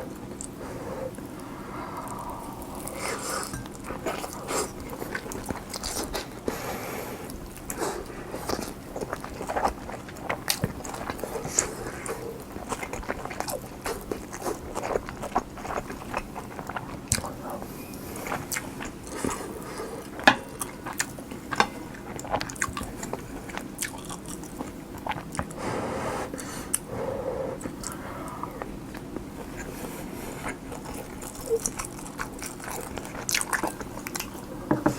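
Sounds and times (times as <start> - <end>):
person chewing food: 0.2 - 25.6, 27.6 - 34.9.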